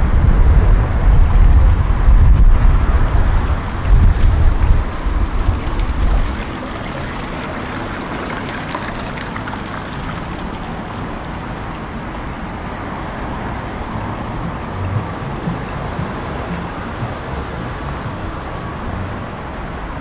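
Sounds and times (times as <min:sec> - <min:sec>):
wind buffeting microphone: 0:00.0 - 0:20.0
fountain water splashing: 0:00.5 - 0:20.0.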